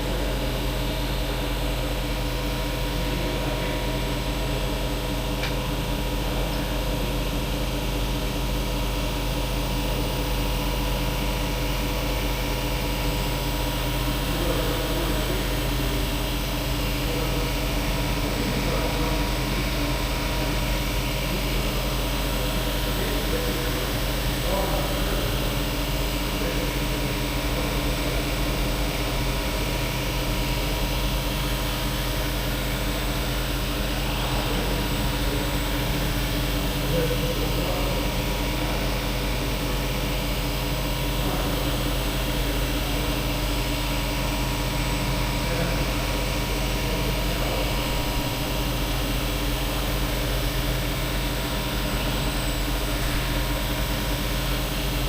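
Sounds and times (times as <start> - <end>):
machine humming and whirring: 0.0 - 55.0.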